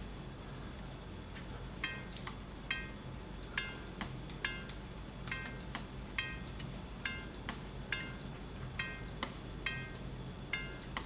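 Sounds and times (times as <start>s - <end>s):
faint metallic relay ticks: 1.8s - 11.0s.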